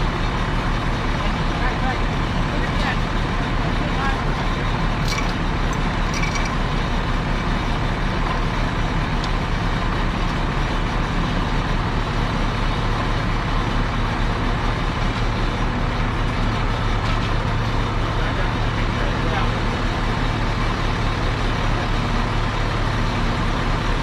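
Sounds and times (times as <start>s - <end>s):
large vehicle engine running: 0.0s - 24.0s.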